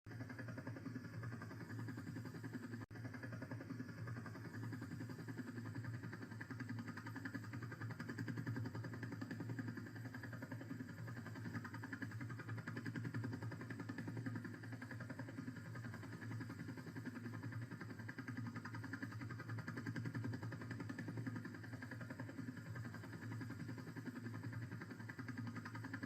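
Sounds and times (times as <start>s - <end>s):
helicopter engine and rotor: 0.1s - 26.0s.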